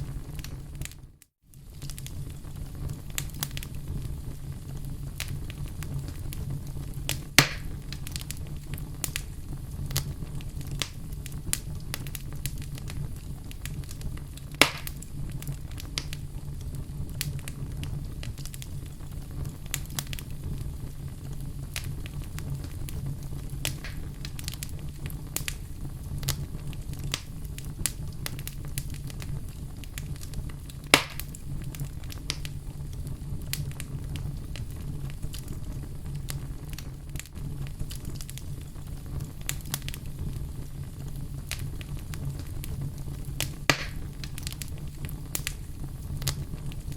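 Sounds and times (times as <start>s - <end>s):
loud fire pops: 0.0s - 46.9s
wood fire crackling: 0.0s - 46.9s
steady low rumble: 1.7s - 46.9s.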